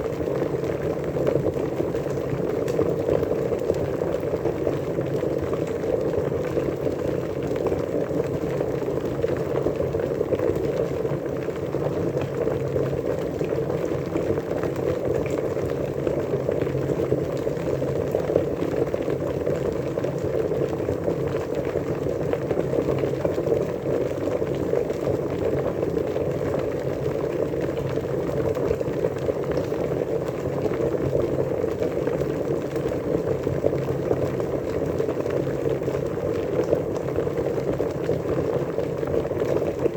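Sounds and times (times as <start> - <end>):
water boiling: 0.0 - 39.9.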